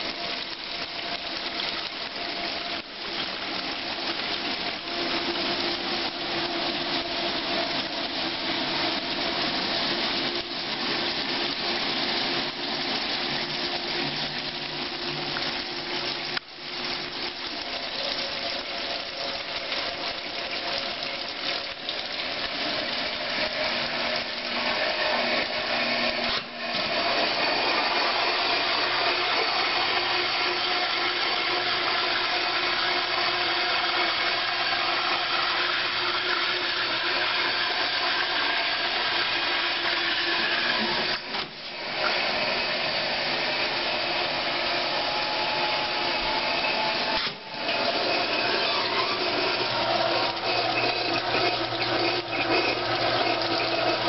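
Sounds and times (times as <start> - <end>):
dishwasher motor whirring: 0.0 - 54.0
dishwasher water rushing: 0.0 - 54.0.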